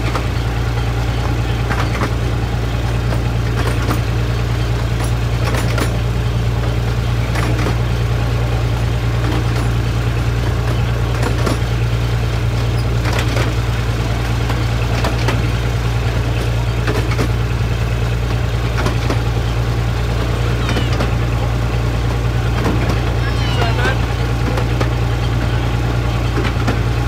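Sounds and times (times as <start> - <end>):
train rattling drone: 0.0 - 27.0
wheels clicking over rail joints: 0.0 - 27.0.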